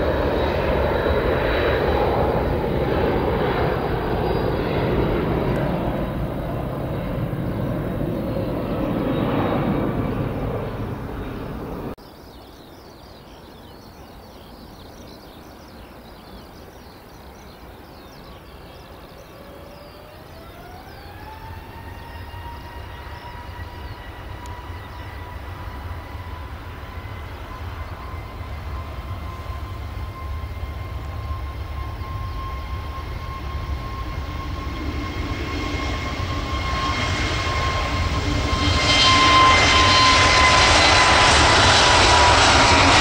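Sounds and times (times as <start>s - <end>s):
jet engine whine rising: 0.0s - 12.0s, 17.2s - 43.0s
jet engines rumbling: 0.0s - 12.3s, 13.3s - 43.0s.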